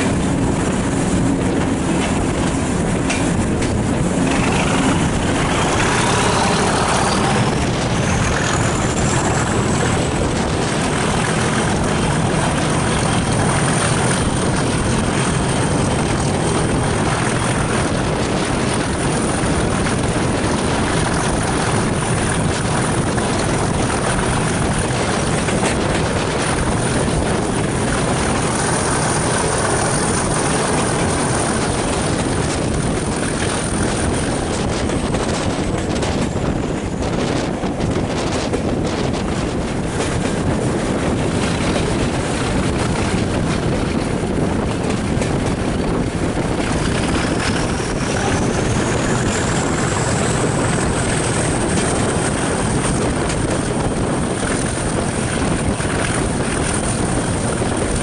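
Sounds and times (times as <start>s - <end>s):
diesel locomotive engine drone: 0.0s - 58.0s
wind and rail noise: 0.0s - 58.0s.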